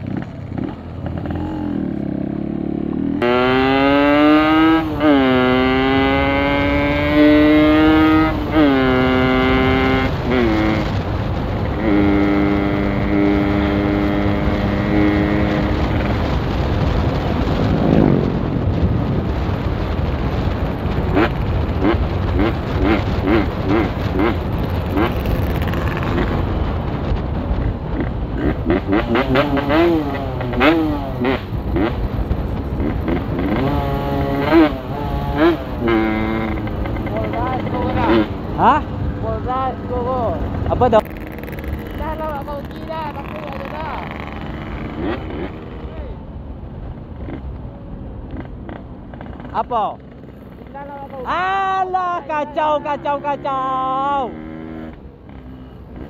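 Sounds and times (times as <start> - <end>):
wind rush: 0.0 - 48.6
motorcycle engine accelerating: 0.0 - 56.0.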